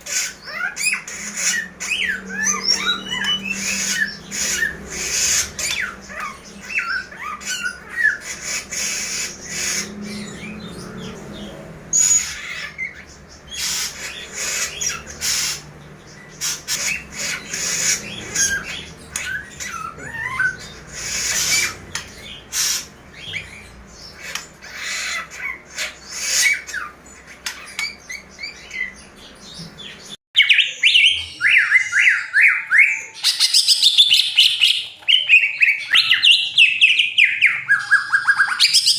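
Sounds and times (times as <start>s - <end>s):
bird singing rapid chirps: 0.0s - 38.9s
caged songbirds chirping and squawking: 0.0s - 38.9s.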